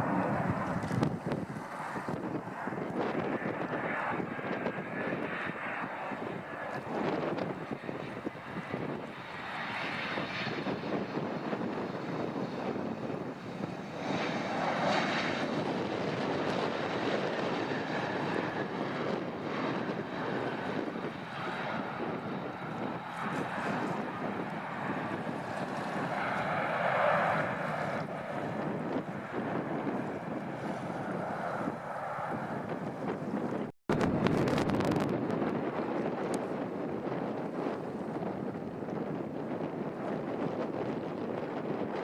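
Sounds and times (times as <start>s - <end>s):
airliner engines running: 0.0s - 42.0s.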